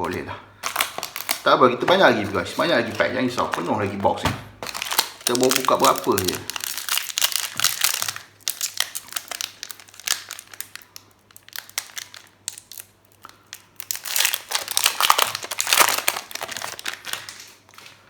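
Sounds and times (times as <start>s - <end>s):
foil wrapper crinkling: 0.0s - 18.0s.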